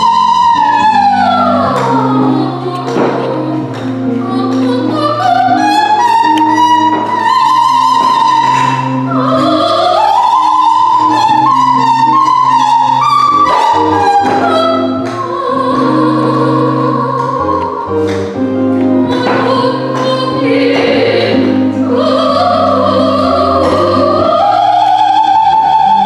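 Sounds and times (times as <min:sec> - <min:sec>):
electronic keyboard chords: 0:00.0 - 0:26.0
operatic singing: 0:00.0 - 0:26.0.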